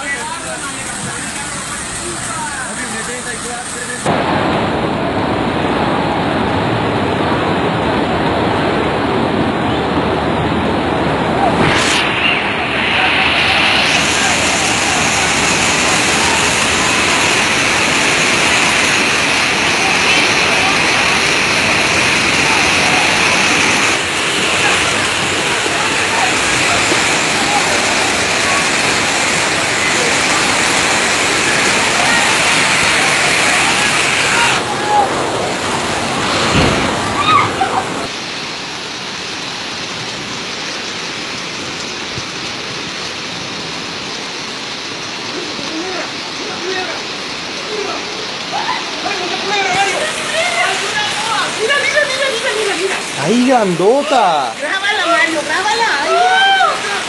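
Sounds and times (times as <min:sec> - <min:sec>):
bus wading through water: 0:00.0 - 0:57.0
floodwater rushing: 0:00.0 - 0:57.0
heavy rain: 0:00.0 - 0:57.0.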